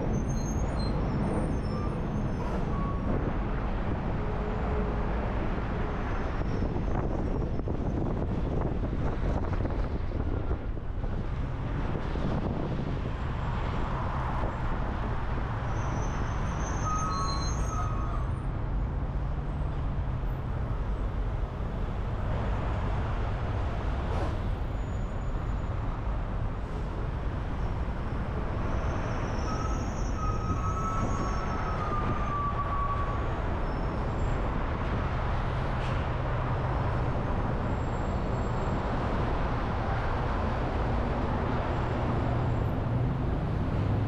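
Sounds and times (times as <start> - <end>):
tyre and wind road noise: 0.0 - 44.0.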